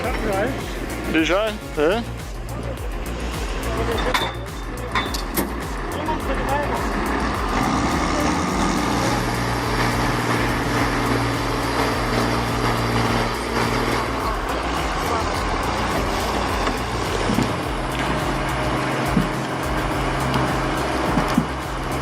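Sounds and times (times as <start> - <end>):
large engine running: 0.0 - 22.0.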